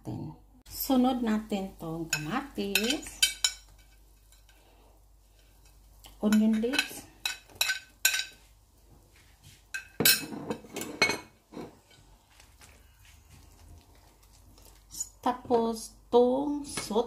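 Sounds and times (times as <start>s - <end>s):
faint kitchen noise: 0.0s - 17.0s.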